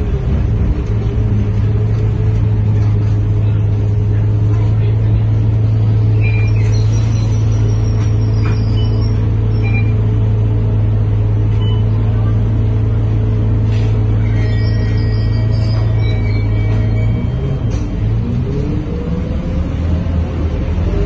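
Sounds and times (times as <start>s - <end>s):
bus engine drone from inside: 0.0s - 21.0s.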